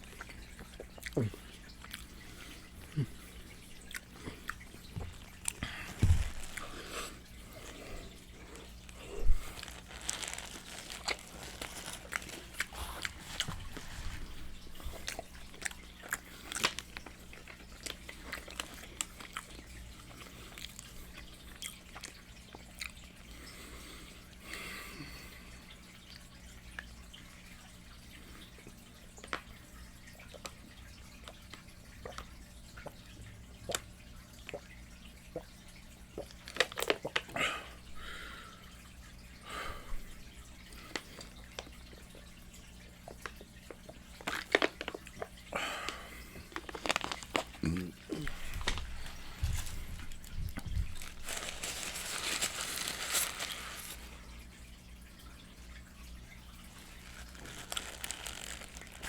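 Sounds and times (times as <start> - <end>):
crunching and chewing fried chicken: 0.0 - 27.0, 27.6 - 38.6, 40.5 - 54.2, 56.5 - 59.0.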